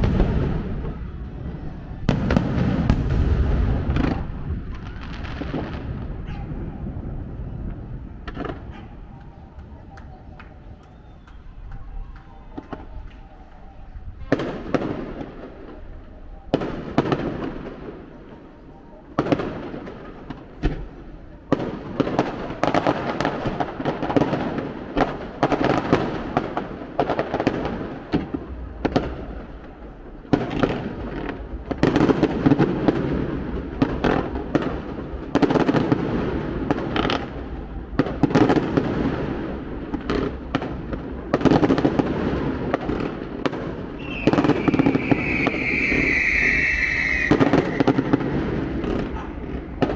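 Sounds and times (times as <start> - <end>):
firework bursts and crackling: 0.0 - 13.3, 14.2 - 49.9.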